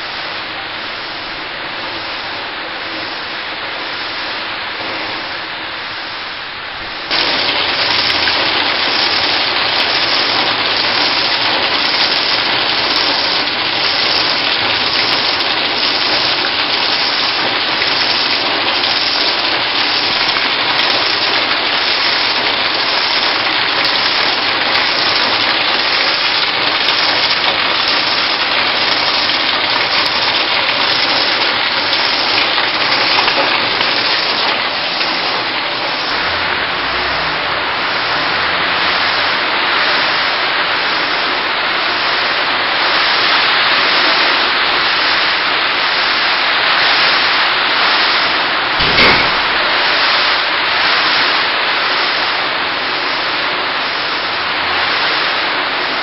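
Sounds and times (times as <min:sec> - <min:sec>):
rain beating on ground: 0:00.0 - 0:56.0
runoff splashing into puddles: 0:06.9 - 0:56.0.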